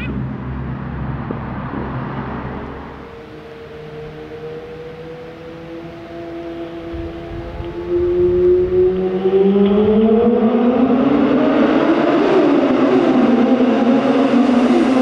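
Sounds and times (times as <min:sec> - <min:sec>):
motorcycle engine in a tunnel: 0:00.0 - 0:15.0.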